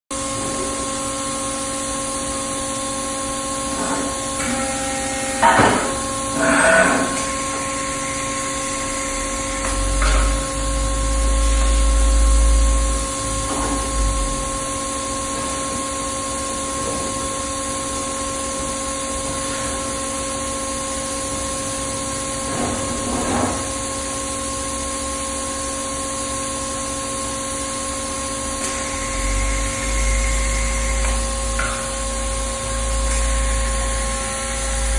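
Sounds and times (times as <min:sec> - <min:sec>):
machine humming: 0:00.2 - 0:22.6, 0:27.4 - 0:34.9.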